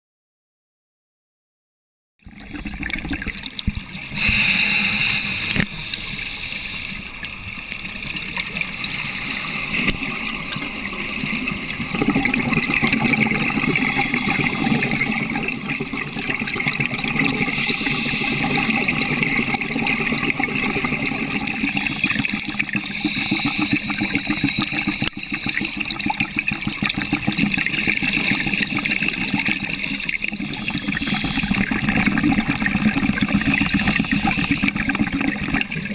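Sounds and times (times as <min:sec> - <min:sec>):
exhaled bubbles rushing: 0:02.3 - 0:04.4, 0:07.2 - 0:35.9
underwater watery hiss: 0:04.1 - 0:35.9.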